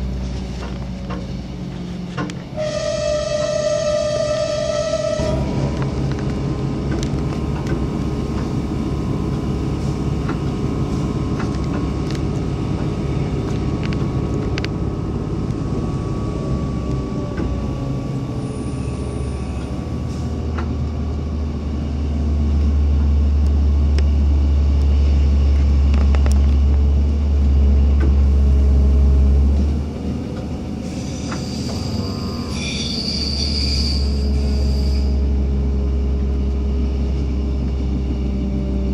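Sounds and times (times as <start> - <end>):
vehicle rumble from inside: 0.0 - 2.6, 5.2 - 38.9.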